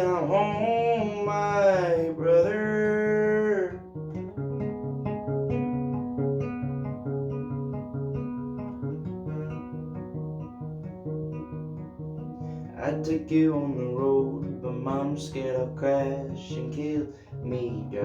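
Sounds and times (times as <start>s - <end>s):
picked acoustic guitar: 0.0s - 18.0s.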